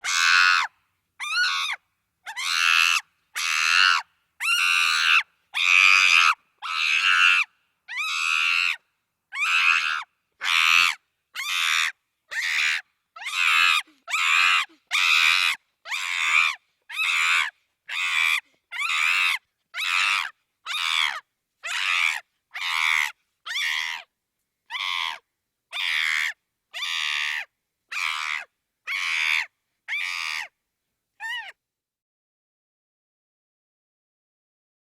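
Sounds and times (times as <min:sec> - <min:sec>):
chimpanzee screaming: 0:00.0 - 0:08.8, 0:09.4 - 0:24.0, 0:24.7 - 0:25.2, 0:25.8 - 0:30.5, 0:31.2 - 0:31.6.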